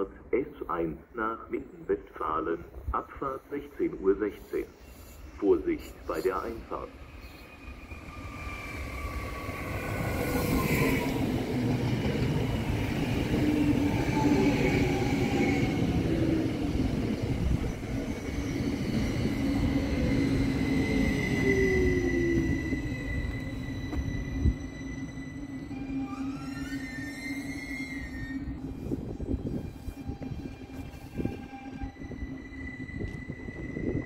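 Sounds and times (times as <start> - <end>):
train wheels rumbling on rails: 4.1 - 34.0.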